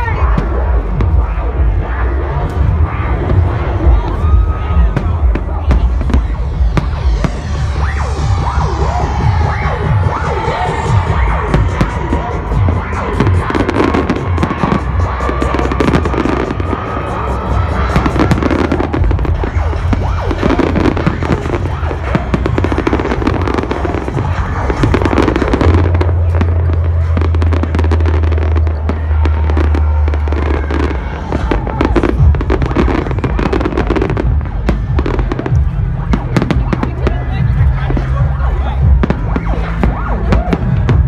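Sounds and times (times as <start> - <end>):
deep bass note: 0.0 - 41.0
electronic dance music: 0.0 - 41.0
fireworks bangs and crackling: 0.0 - 41.0.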